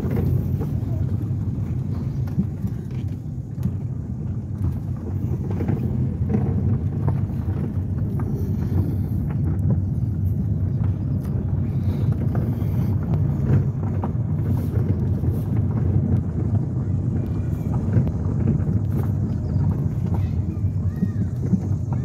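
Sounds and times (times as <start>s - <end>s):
car engine and tyres rumbling: 0.0s - 22.0s
gravel clicking under wheels: 0.0s - 22.0s.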